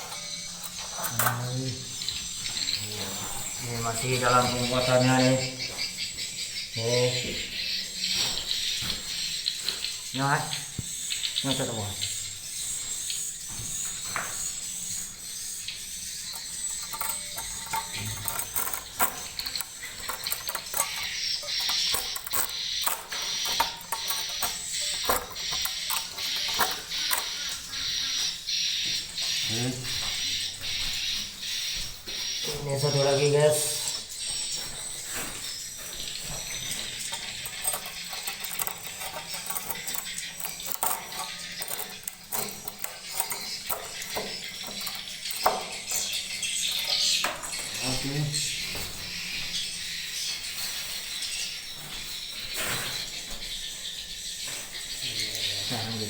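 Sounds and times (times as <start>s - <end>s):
swiftlets twittering: 0.0s - 31.6s, 32.2s - 48.6s.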